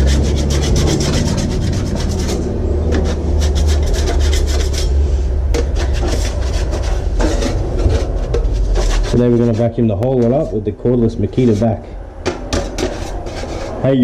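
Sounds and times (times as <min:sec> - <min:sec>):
scratchy rubbing strokes: 0:00.0 - 0:10.6, 0:11.2 - 0:11.8, 0:12.5 - 0:14.0
steady low rumble: 0:00.0 - 0:13.8.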